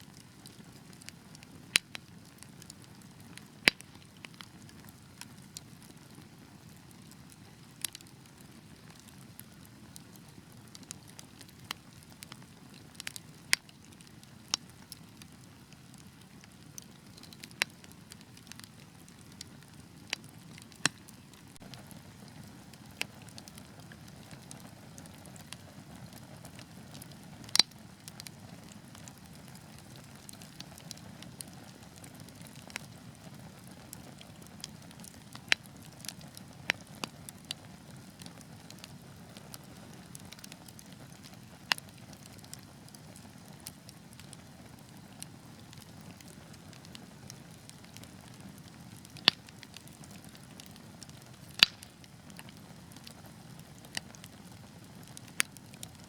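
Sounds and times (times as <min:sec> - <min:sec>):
logs crackling and popping: 0:00.1 - 0:56.0
low rumble of flames: 0:00.1 - 0:56.0.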